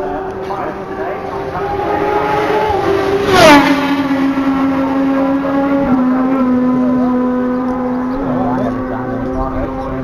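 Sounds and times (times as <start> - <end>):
racing motorcycle passing: 0.0 - 10.0.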